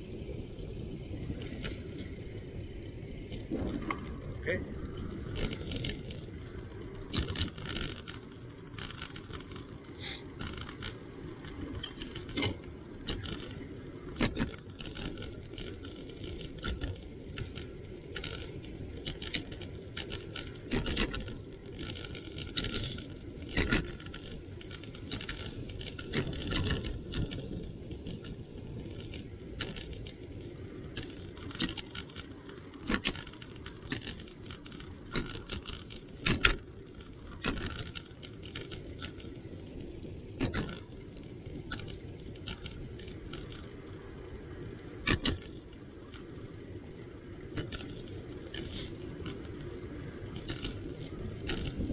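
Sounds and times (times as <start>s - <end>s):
bicycle clicks and rattles: 0.0s - 51.9s
bicycle tyres rumbling on asphalt: 0.0s - 51.9s.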